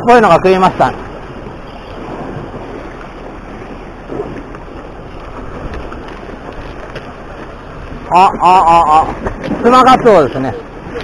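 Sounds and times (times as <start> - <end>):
sea washing against rocks: 0.0 - 11.0.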